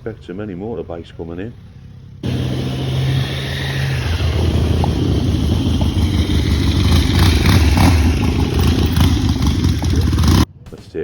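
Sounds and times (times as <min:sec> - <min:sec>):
motorcycle engines running: 0:01.5 - 0:10.5.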